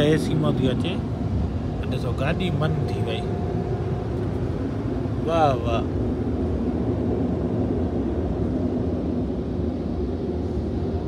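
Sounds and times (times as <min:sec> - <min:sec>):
car wash air dryers blowing: 0:00.0 - 0:11.0.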